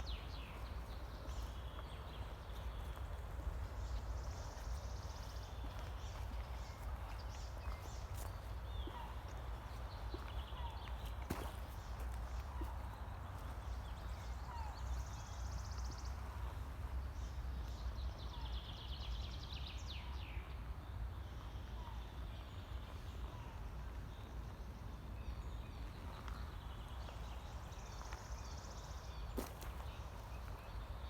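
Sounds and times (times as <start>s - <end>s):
low rumble of wind: 0.0s - 31.0s.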